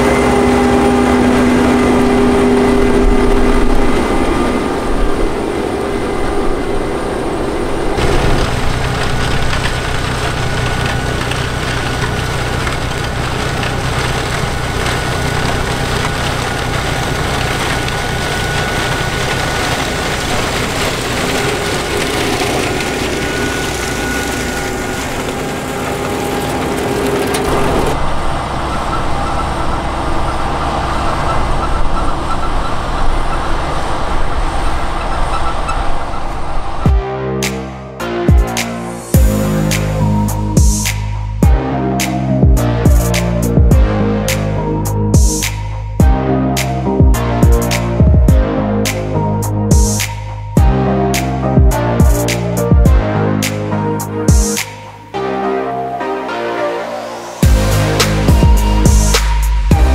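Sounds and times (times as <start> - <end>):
farm machinery engines running: 0.0 - 56.1, 57.0 - 59.9.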